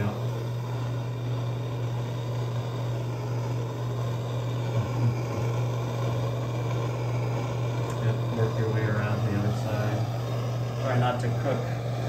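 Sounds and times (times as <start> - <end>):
gas torch flame roaring: 0.0 - 12.0.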